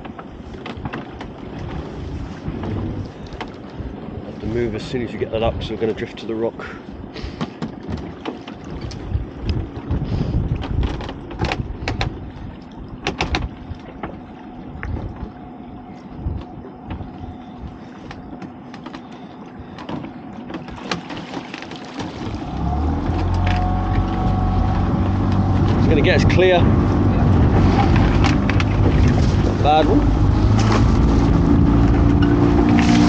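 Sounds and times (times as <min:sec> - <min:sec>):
knocks and clatter on boat: 0:00.0 - 0:33.0
outboard motor running: 0:00.0 - 0:33.0.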